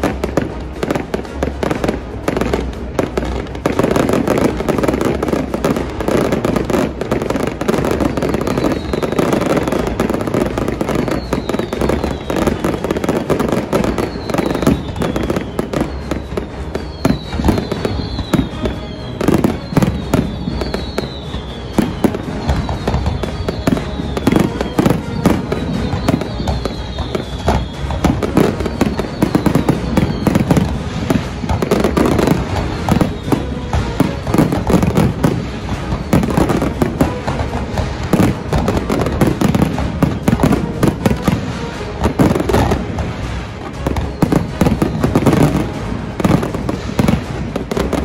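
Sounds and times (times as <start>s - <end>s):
fireworks bursting and crackling: 0.0s - 48.0s
music: 0.0s - 48.0s.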